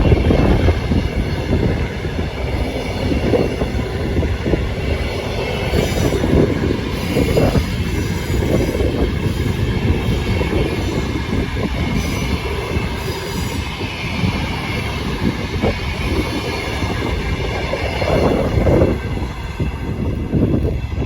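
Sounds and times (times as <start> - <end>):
train rumbling along track: 0.0 - 21.0.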